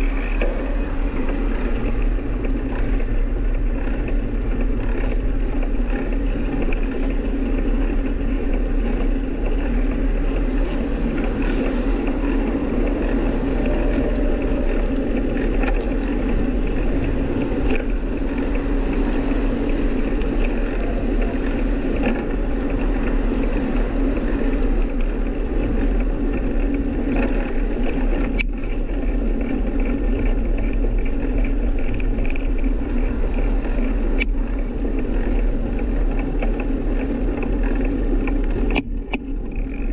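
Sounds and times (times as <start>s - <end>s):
bicycle road noise: 0.0s - 39.9s
rushing wind on microphone: 0.0s - 39.9s.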